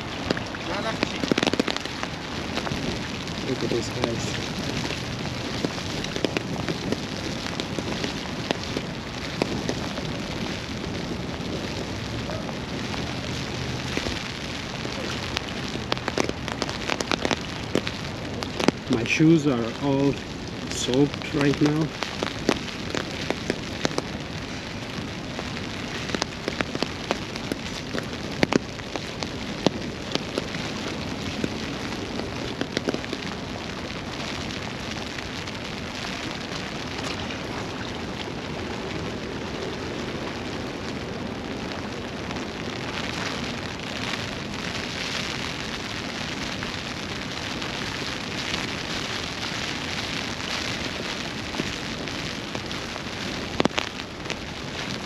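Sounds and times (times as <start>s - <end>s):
raindrops tapping close by: 0.0s - 55.0s
steady rain falling: 0.0s - 55.0s.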